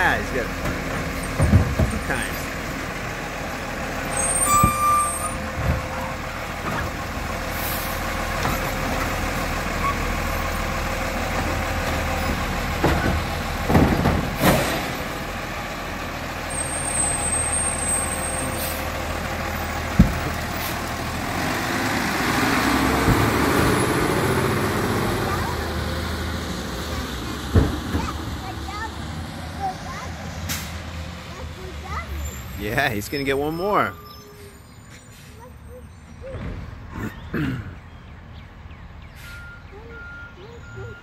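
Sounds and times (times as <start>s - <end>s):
garbage truck diesel engine: 0.0s - 41.0s.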